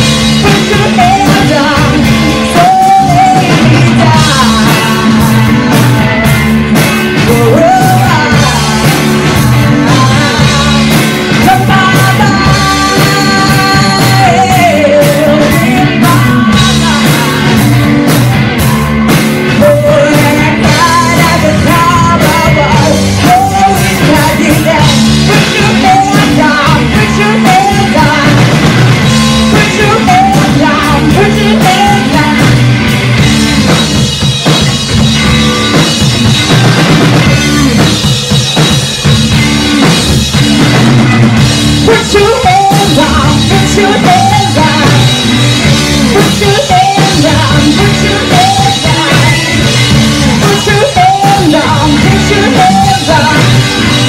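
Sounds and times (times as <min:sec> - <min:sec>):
bass guitar: 0:00.0 - 0:54.0
drum kit: 0:00.0 - 0:54.0
electric guitar: 0:00.0 - 0:54.0
woman singing lead: 0:00.0 - 0:54.0.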